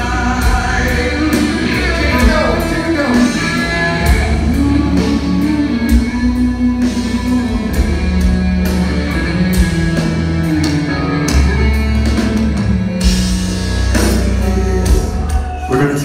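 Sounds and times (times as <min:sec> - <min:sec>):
metal band playing live: 0:00.0 - 0:16.0.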